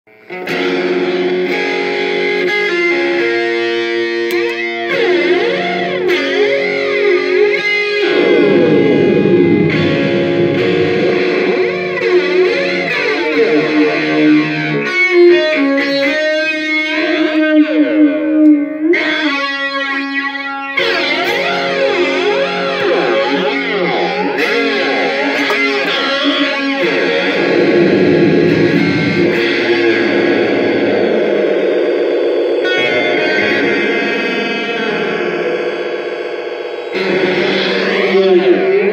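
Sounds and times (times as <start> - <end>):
electric guitar through flanger: 0.2 - 38.9.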